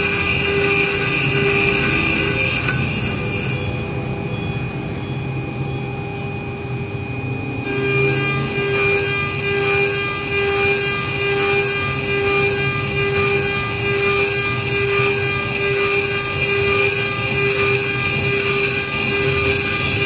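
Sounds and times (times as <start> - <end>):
end mill cutting aluminium: 0.0 - 3.8, 7.7 - 20.0
mill spindle whining: 0.0 - 20.0.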